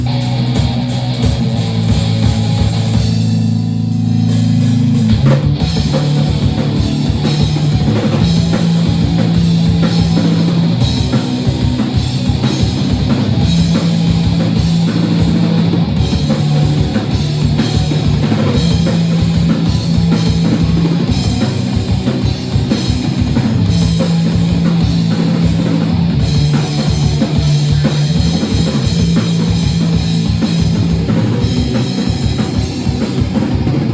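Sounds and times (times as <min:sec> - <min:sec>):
drum kit fast beat: 0:00.0 - 0:33.9
rock band playing live: 0:00.0 - 0:33.9.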